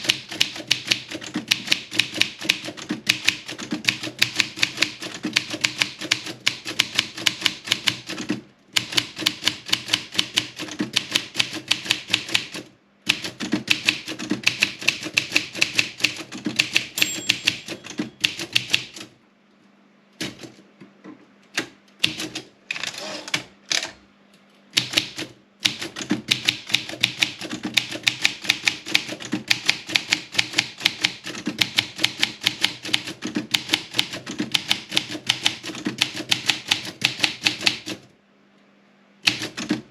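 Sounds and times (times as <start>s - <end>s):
typewriter key strikes: 0.0s - 19.1s, 24.8s - 38.0s, 39.2s - 39.9s.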